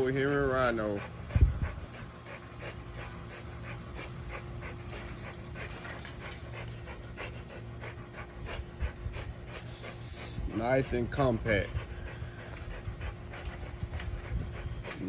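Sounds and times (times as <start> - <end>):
dog panting rapidly: 0.0 - 15.0.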